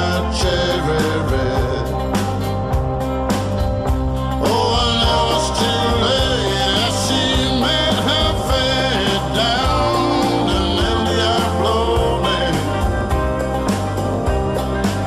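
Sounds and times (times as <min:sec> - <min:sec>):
blues-rock band music: 0:00.0 - 0:15.0
drums beat: 0:00.0 - 0:15.0.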